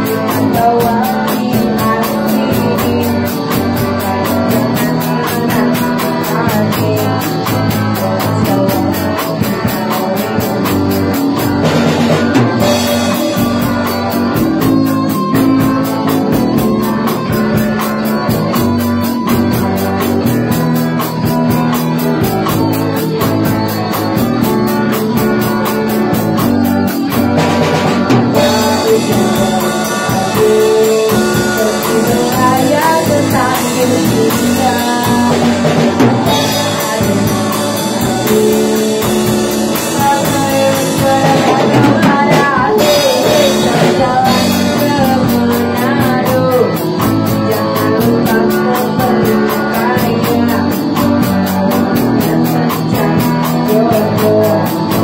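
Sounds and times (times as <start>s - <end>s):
drum kit beat: 0.0s - 55.0s
electric guitars: 0.0s - 55.0s.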